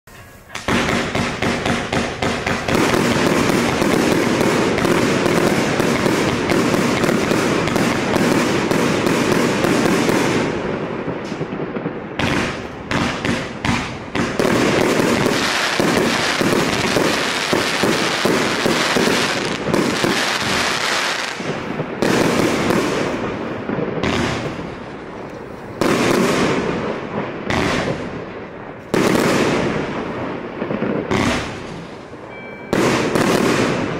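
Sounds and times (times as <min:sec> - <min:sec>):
firework cake shots and bursts: 0:00.5 - 0:10.6, 0:11.2 - 0:25.1, 0:25.8 - 0:30.0.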